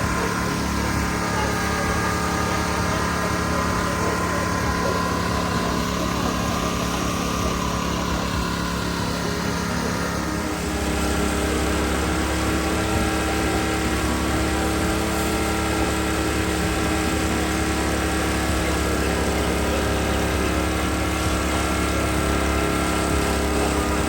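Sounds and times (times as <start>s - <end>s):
engine droning steadily: 0.0s - 24.0s.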